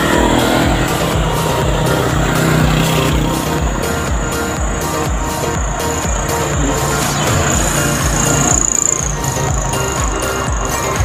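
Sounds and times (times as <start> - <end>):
electronic dance music: 0.0 - 11.0
vehicle engine running: 0.0 - 11.0.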